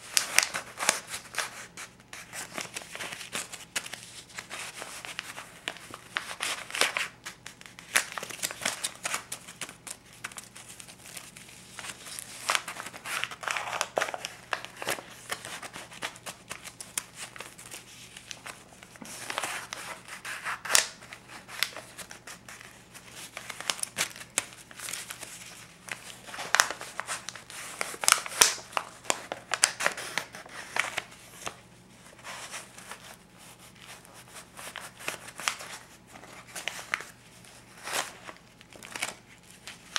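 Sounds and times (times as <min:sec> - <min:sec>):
paper bills crinkling and flicking: 0:00.0 - 0:39.9.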